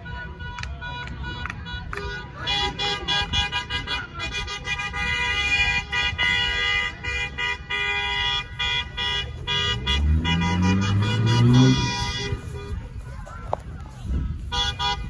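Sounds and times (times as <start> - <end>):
car horns honking: 0.0 - 13.0, 14.4 - 15.0.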